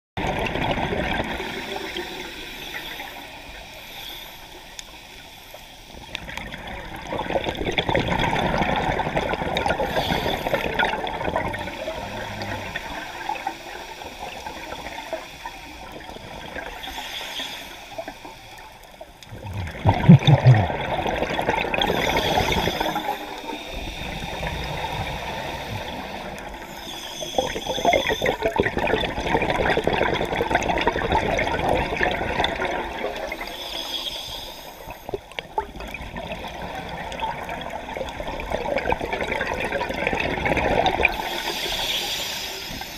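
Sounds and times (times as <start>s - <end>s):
scuba bubbles gurgling: 0.2s - 42.9s.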